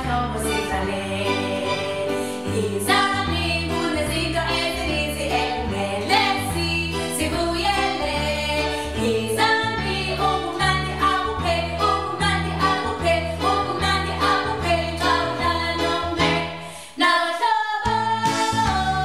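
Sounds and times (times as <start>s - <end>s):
instrumental backing track: 0.0s - 16.8s
women singing a children's song: 0.0s - 19.0s.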